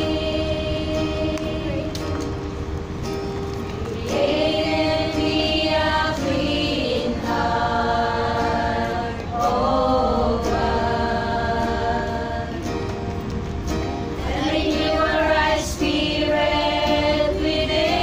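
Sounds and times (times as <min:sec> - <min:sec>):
women singing together: 0:00.0 - 0:02.4, 0:03.9 - 0:12.9, 0:14.2 - 0:18.0.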